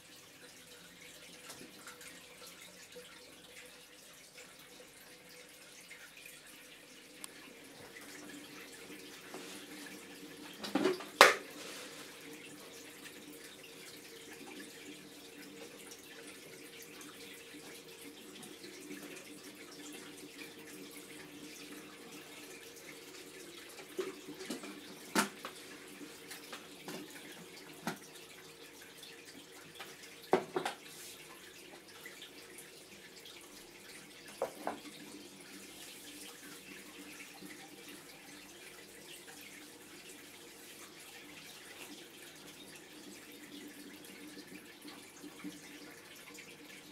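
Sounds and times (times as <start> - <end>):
water trickling: 0.0 - 46.9.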